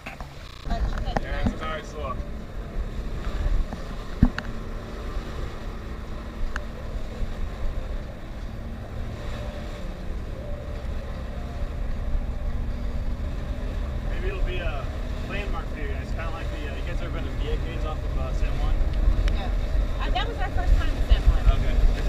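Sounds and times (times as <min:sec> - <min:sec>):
wind noise on microphone: 0:00.0 - 0:14.2, 0:18.4 - 0:22.0
motorboat engine running: 0:00.0 - 0:22.0.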